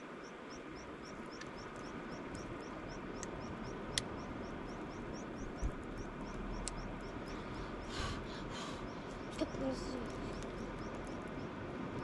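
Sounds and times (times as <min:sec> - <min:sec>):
steady background rush: 0:00.0 - 0:12.0.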